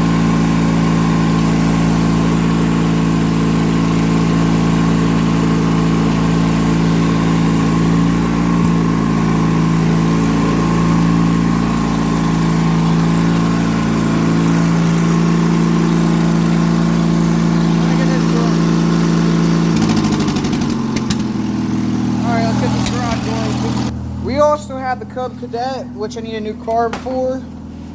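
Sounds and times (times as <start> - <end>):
riding mower engine idling: 0.0 - 27.9.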